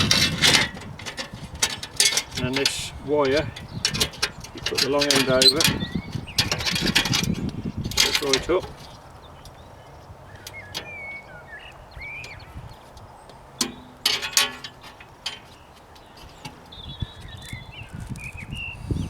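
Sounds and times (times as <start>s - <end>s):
wire clips and glass panes clinking: 0.0s - 17.6s
birds chirping: 0.0s - 19.0s.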